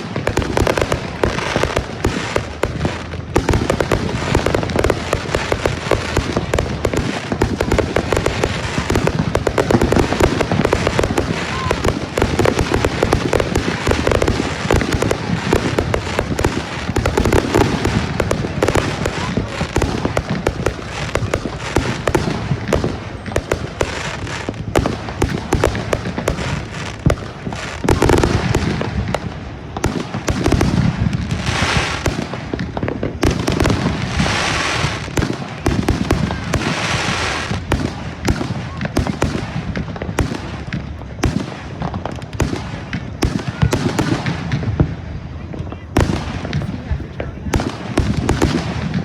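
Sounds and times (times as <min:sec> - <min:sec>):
fireworks bangs and crackling: 0:00.0 - 0:49.0
hissing crackle: 0:00.0 - 0:49.0.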